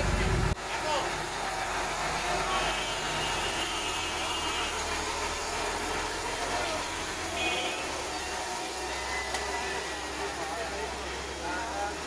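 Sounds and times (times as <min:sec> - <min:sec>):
street noise hiss: 0:00.0 - 0:12.0
vehicle engine running: 0:00.0 - 0:12.0.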